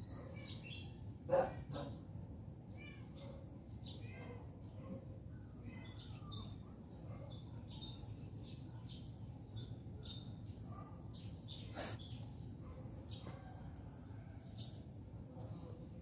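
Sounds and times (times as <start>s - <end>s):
small birds chirping: 0.0s - 2.1s, 2.7s - 16.0s.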